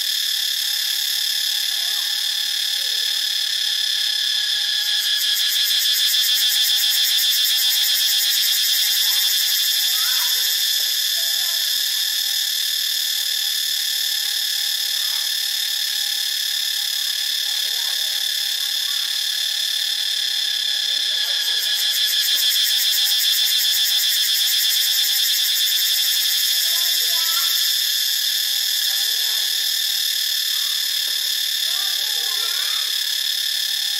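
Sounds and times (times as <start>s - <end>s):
cicada pulsing buzz: 0.0s - 33.9s.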